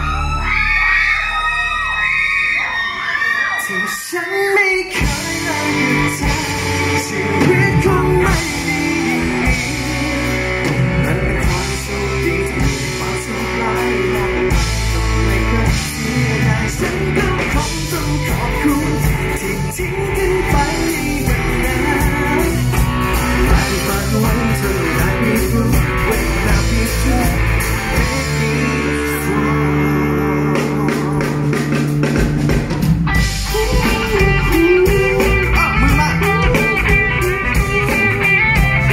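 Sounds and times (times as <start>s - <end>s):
man singing: 3.6s - 31.9s, 33.4s - 38.9s
drum kit: 4.9s - 38.9s
electric guitar: 4.9s - 38.9s
bass guitar: 5.0s - 38.9s.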